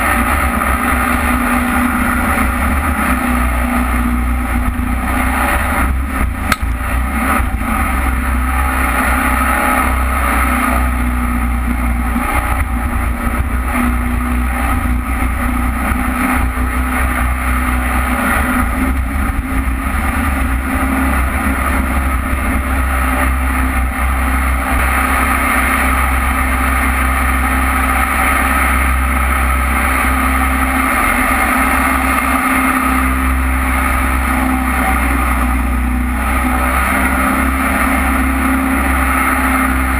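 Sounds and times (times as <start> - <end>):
jet boat engine running: 0.0 - 39.9.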